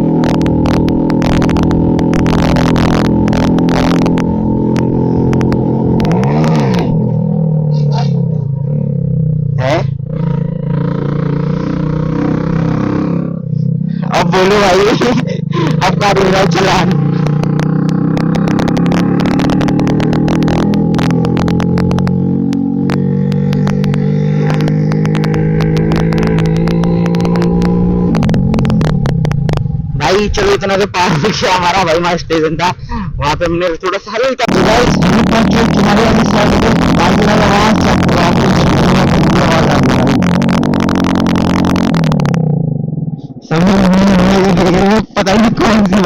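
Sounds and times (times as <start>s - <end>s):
engine revving: 0.0s - 32.0s, 34.5s - 46.0s
motorcycle engine loud exhaust: 0.0s - 32.0s, 34.5s - 46.0s
exhaust crackling: 0.0s - 46.0s.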